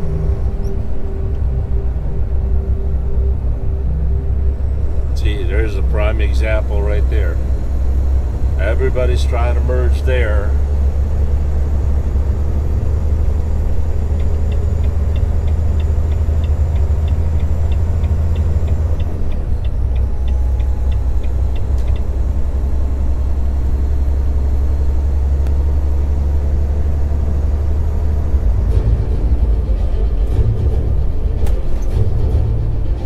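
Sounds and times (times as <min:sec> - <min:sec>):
road noise inside cab: 0:00.0 - 0:33.0
truck engine rumble: 0:00.0 - 0:33.0.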